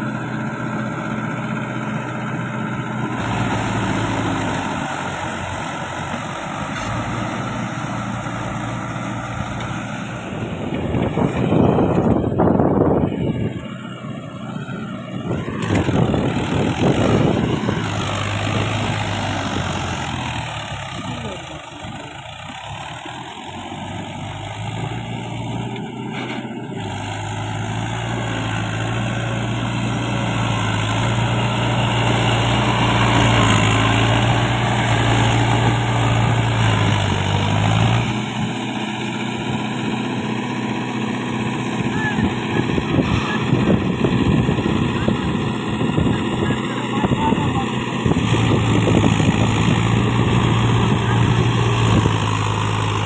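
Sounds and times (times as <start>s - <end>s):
tractor engine running hard: 0.0s - 53.0s.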